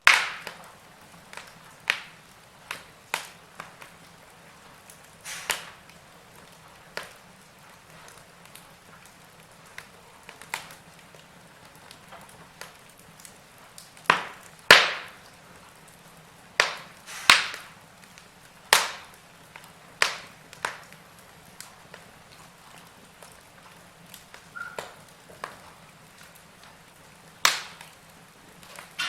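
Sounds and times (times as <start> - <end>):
log fire crackling: 0.0 - 29.0.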